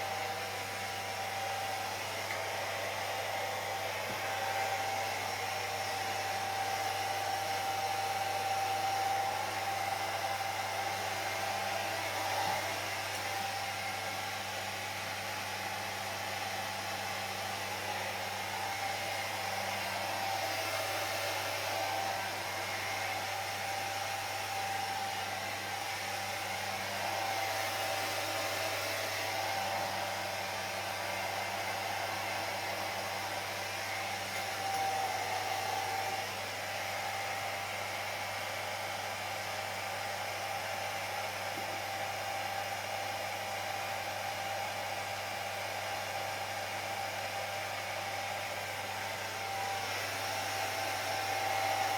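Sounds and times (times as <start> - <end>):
hair dryer running: 0.0 - 51.9.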